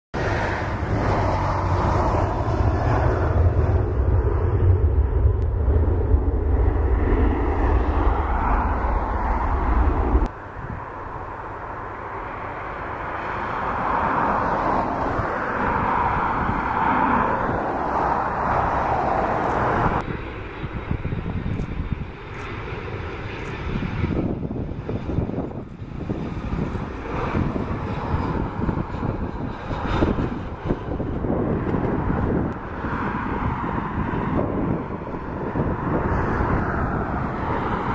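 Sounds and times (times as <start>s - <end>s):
jet engine noise: 0.1s - 37.9s.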